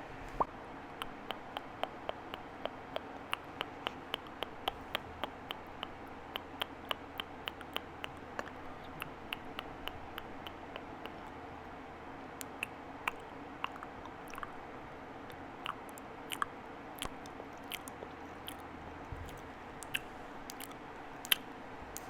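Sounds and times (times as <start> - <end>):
faint microphone hiss: 0.0 - 22.0
mouth clicks and lip pops: 0.3 - 11.4, 12.4 - 22.0.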